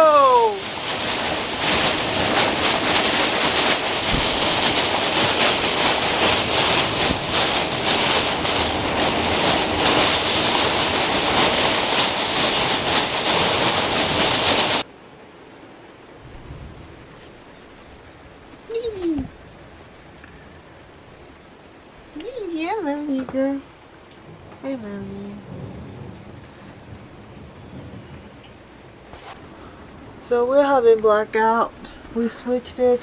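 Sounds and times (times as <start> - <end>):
gusting storm wind: 0.0 - 14.9, 15.9 - 22.4, 23.7 - 33.0
heavy rain: 0.0 - 23.0, 23.6 - 32.4.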